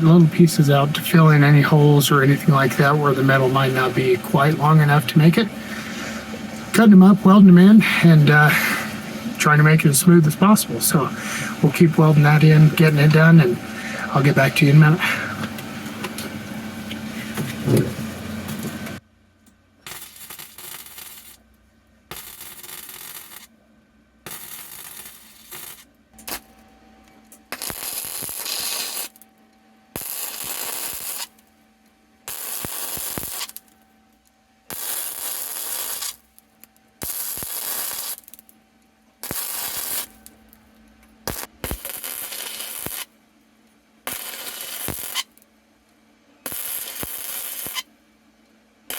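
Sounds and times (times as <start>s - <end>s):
welder arc buzzing: 0.0s - 19.0s, 19.8s - 23.5s, 24.2s - 26.6s, 27.3s - 29.3s, 29.9s - 31.5s, 32.2s - 33.9s, 34.6s - 38.6s, 39.2s - 43.2s, 44.0s - 45.5s, 46.4s - 47.9s.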